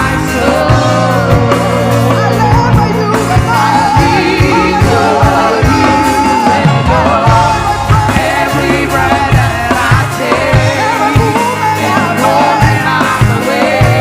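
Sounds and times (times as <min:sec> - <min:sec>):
voices singing: 0:00.0 - 0:14.0
worship band playing: 0:00.0 - 0:14.0.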